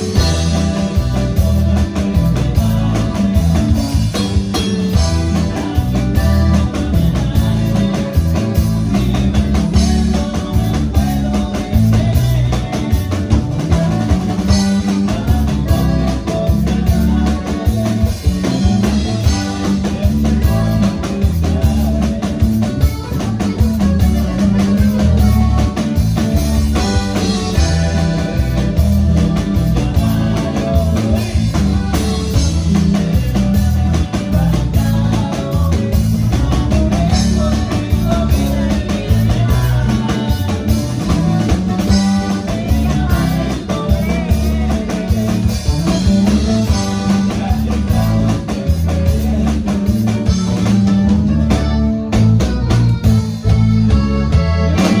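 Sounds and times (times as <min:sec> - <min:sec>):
button accordion: 0:00.0 - 0:55.0
drum kit: 0:00.0 - 0:55.0
heavy electric bass: 0:00.0 - 0:55.0
twelve-string guitar: 0:00.0 - 0:55.0.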